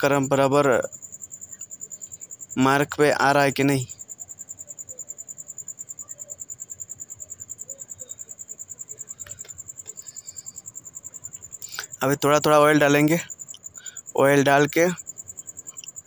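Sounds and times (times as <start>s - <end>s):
high-pitched pulsing chirping: 0.0s - 16.0s.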